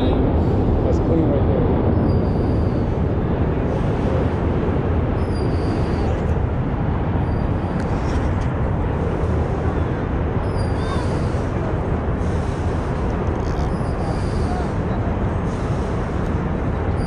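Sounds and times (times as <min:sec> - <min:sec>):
low rumble of city traffic: 0:00.0 - 0:17.0
wind on microphone: 0:00.0 - 0:17.0.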